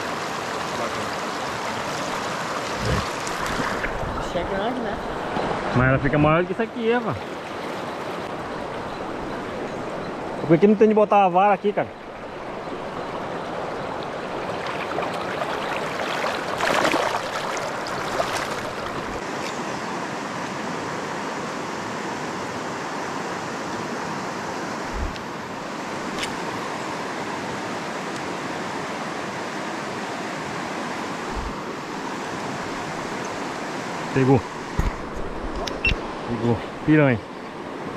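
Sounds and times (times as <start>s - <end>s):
rushing river water: 0.0s - 37.9s.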